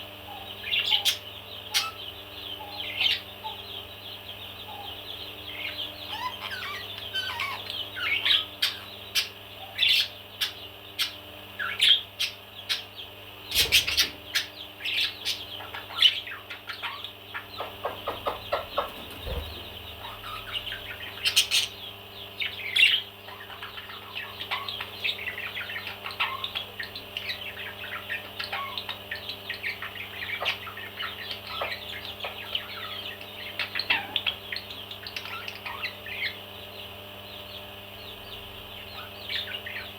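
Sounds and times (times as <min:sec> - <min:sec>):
parrots chirping and squawking: 0:00.3 - 0:03.6, 0:04.7 - 0:36.4, 0:38.7 - 0:39.9.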